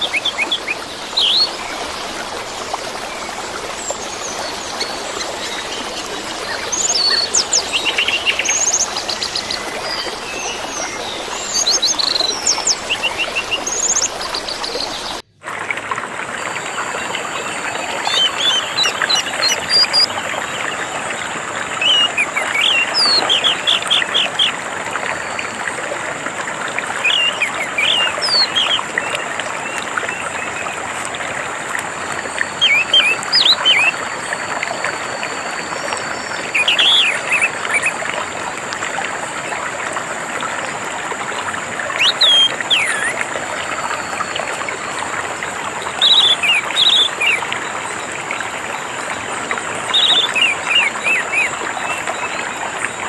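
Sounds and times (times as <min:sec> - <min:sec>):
trickling water: 0:00.0 - 0:53.0.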